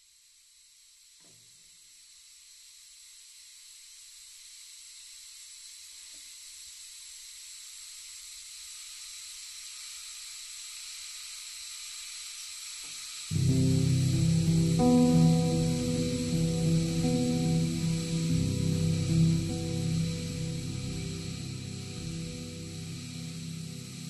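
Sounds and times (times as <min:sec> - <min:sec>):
high-pitched hiss: 0:00.0 - 0:24.0.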